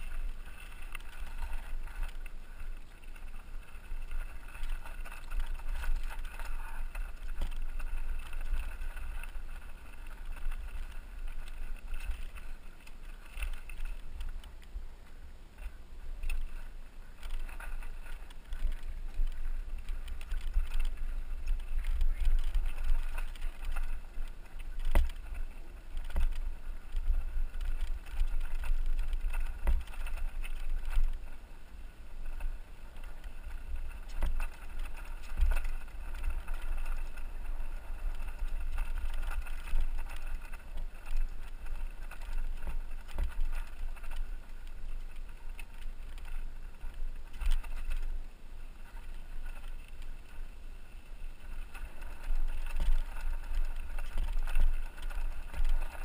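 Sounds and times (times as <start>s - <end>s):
bike knocking and rattling: 0.0s - 56.0s
wind rumble on microphone: 0.0s - 56.0s.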